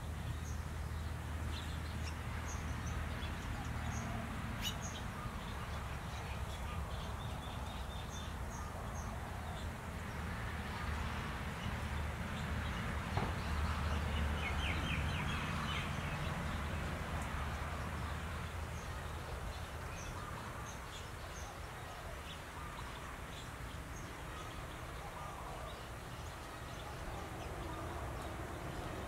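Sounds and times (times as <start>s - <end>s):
small songbirds chirping: 0.0s - 29.0s.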